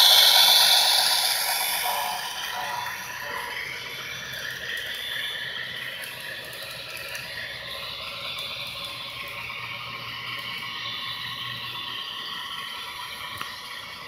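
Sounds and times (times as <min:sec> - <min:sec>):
model train wheels rattling: 0:00.0 - 0:14.0.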